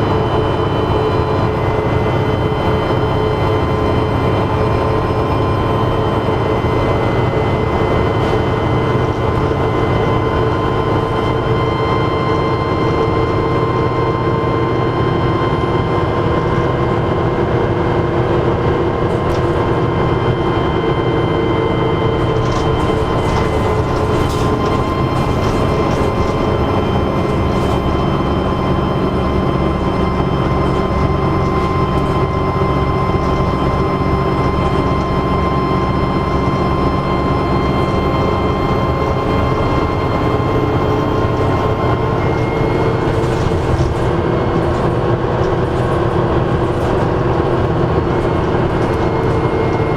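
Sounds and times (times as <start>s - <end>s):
bus diesel engine rumbling: 0.0s - 49.9s
turbocharger whine: 0.0s - 49.9s.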